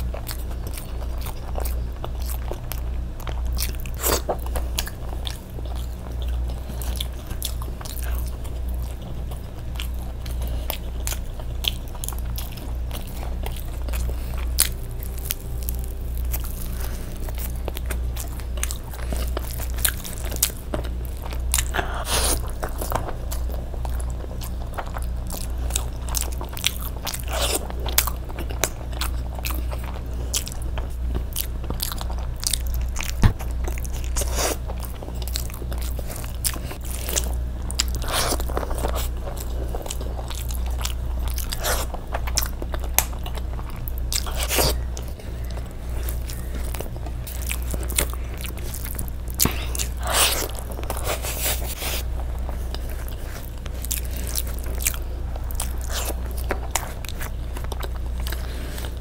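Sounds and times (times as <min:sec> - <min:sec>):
person chewing: 0:00.0 - 0:59.0
steady low hum: 0:00.0 - 0:59.0.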